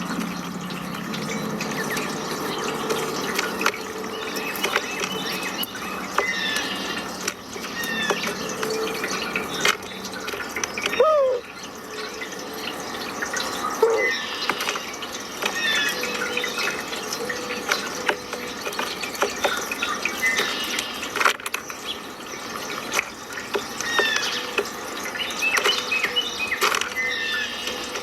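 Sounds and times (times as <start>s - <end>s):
drawn-out bird call: 0.0s - 28.0s
running water: 0.0s - 28.0s
small birds chirping: 0.0s - 28.0s.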